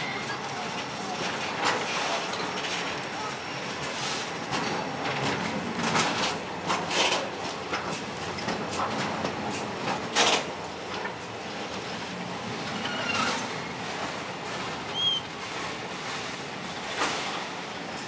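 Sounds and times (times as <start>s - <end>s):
train wagons clanking: 0.0s - 18.0s
train wheels rolling on rails: 0.0s - 18.0s.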